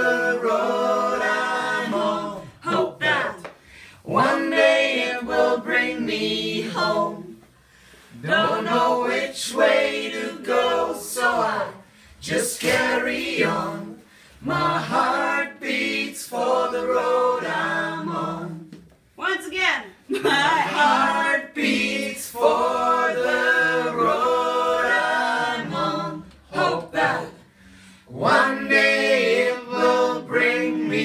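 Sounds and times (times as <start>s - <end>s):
group singing a cappella: 0.0s - 19.1s, 20.1s - 31.0s.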